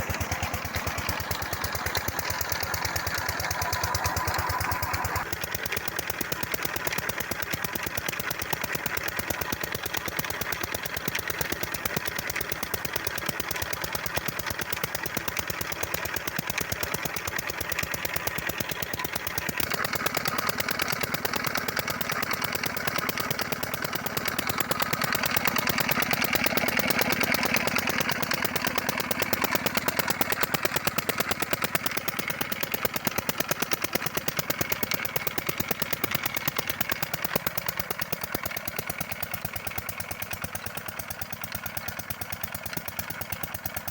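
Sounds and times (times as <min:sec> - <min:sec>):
diesel engine chugging: 0:00.0 - 0:43.9.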